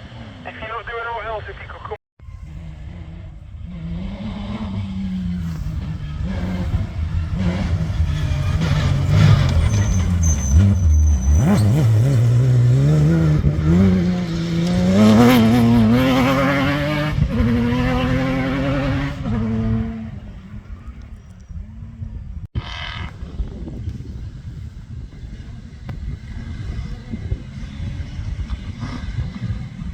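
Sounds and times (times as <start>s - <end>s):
off-road vehicle engine revving: 2.4s - 29.9s.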